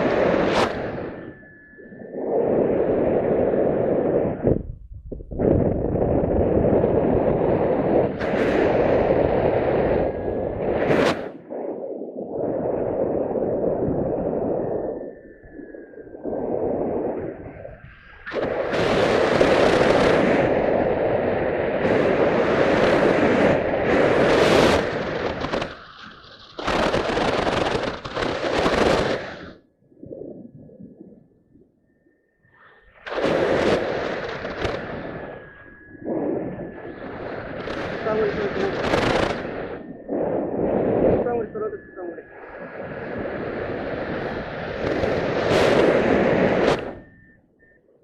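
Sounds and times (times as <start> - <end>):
wind buffeting microphone: 0.0 - 31.7, 32.8 - 47.4.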